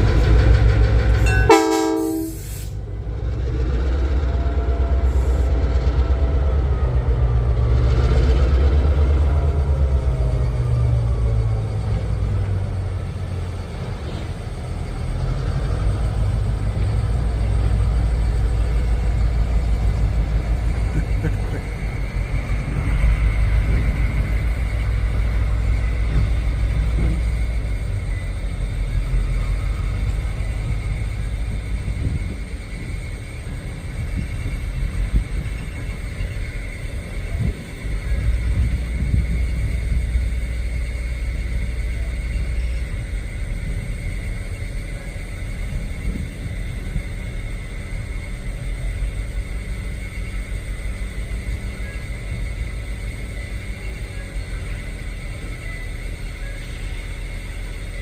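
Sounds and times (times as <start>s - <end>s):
diesel locomotive engine throbbing: 0.0s - 58.0s.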